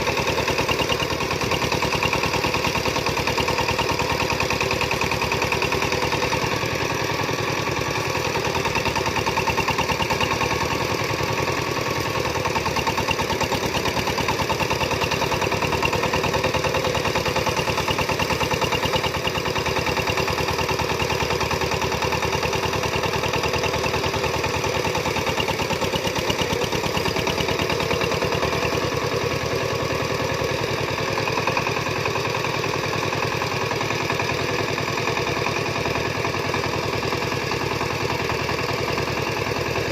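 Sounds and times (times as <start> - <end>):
farm engine chugging: 0.0 - 39.9.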